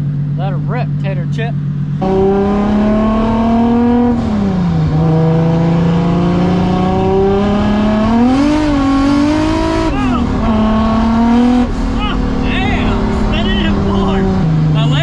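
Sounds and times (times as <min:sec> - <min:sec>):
turbocharged engine accelerating: 0:00.0 - 0:15.0.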